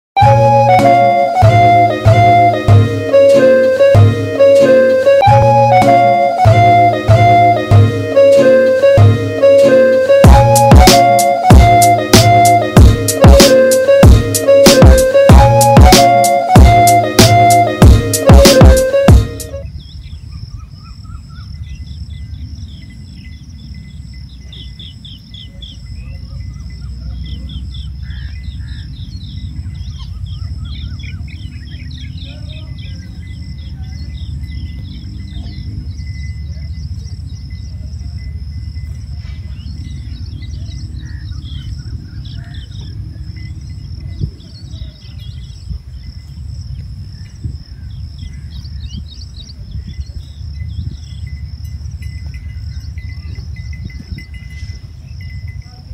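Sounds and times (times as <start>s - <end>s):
birds chirping and twittering: 5.7s - 55.9s.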